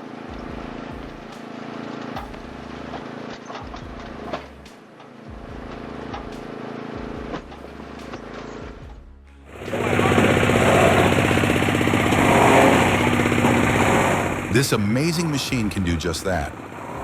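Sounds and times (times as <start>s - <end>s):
log splitter engine running: 0.0s - 17.0s.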